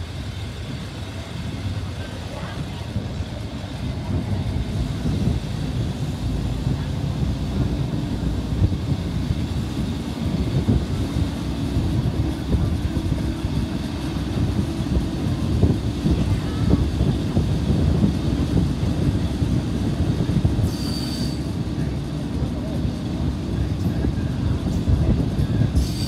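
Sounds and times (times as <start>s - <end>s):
railcar low rumble: 0.0s - 26.0s.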